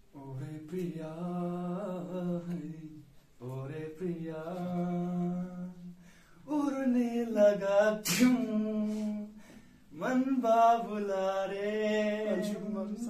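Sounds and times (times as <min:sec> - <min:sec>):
man singing unaccompanied chant: 0:00.0 - 0:13.0.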